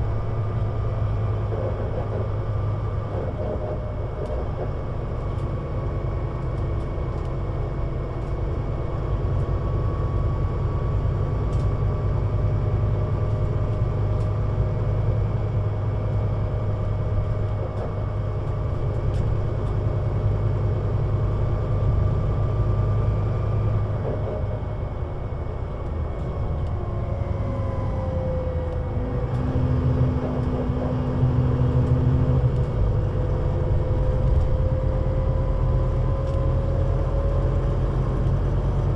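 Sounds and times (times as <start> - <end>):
bus engine drone with whine: 0.0 - 38.9.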